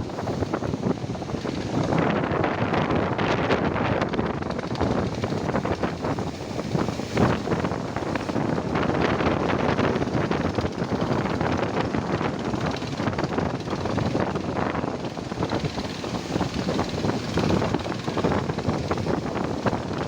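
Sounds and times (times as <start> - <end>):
heavy surf: 0.0 - 20.0
wind buffeting microphone: 0.0 - 20.0.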